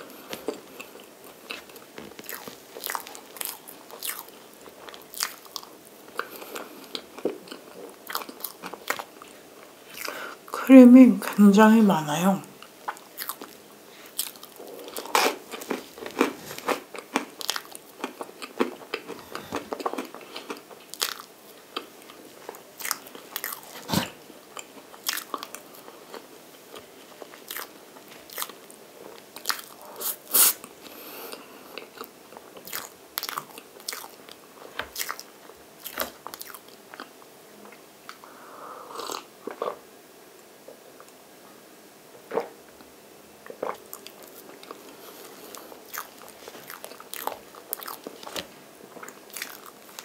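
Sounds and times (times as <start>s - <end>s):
soft chewing: 0.0s - 10.6s, 12.6s - 39.8s, 43.4s - 50.0s.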